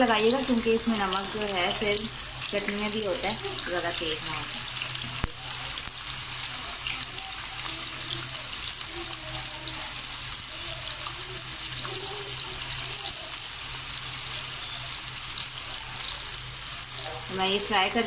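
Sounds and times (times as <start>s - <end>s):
fries sizzling in hot oil: 0.0s - 18.0s.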